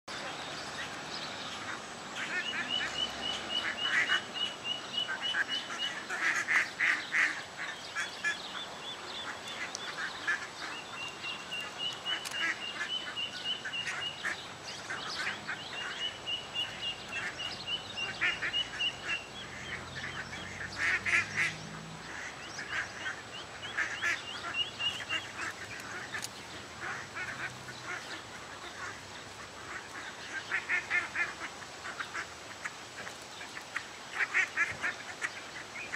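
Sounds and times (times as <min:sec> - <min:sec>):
ducklings peeping: 0:00.1 - 0:35.9
ducks quacking: 0:00.1 - 0:35.9.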